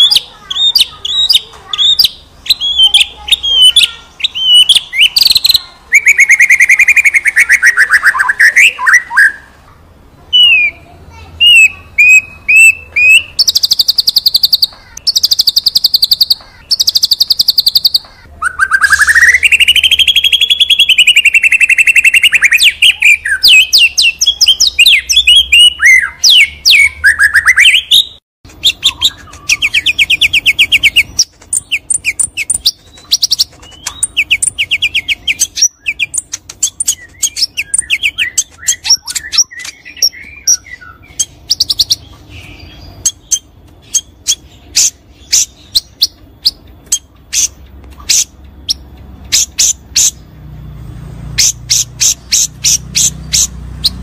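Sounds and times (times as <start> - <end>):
songbird whistling and trilling: 0.0 - 9.6, 10.3 - 50.2.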